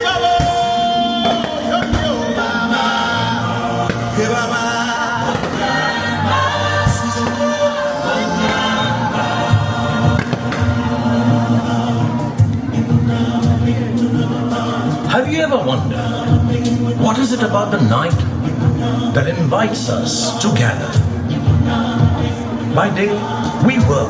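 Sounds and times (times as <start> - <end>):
choir singing with music: 0.0 - 24.0.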